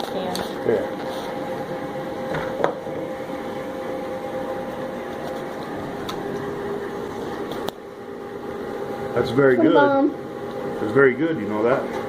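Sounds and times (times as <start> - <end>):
steady two-tone machine hum: 0.0 - 12.0.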